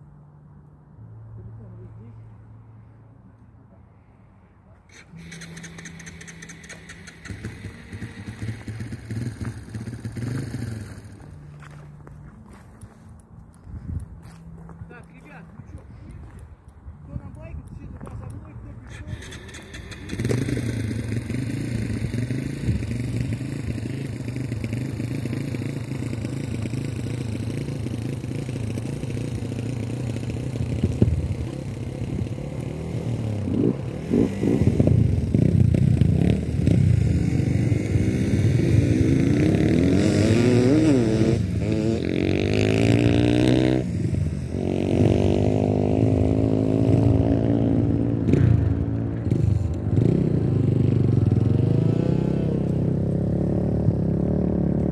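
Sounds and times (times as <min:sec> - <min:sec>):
motorcycle engines revving: 0:04.8 - 0:54.9.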